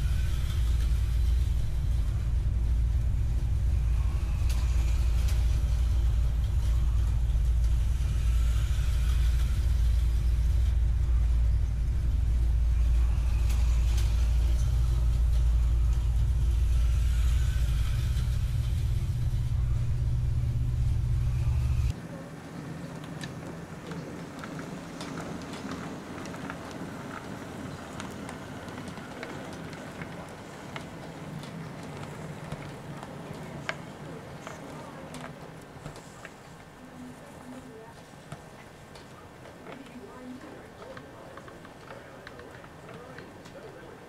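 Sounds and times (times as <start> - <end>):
model locomotive rolling on track: 0.0 - 44.0
model trains low rumble: 0.0 - 44.0.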